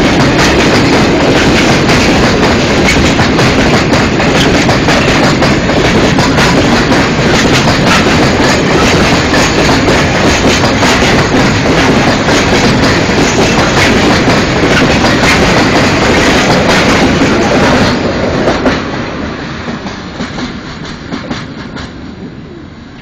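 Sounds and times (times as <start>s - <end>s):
wheels clacking over rail joints: 0.0s - 22.1s
freight train rolling past: 0.0s - 23.0s.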